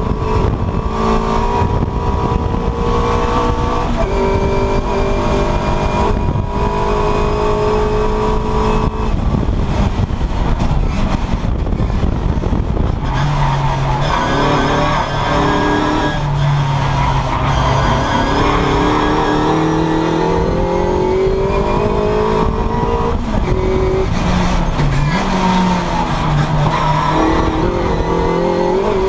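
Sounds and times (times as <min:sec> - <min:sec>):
race car engine: 0:00.0 - 0:29.0
road and wind noise: 0:00.0 - 0:29.0.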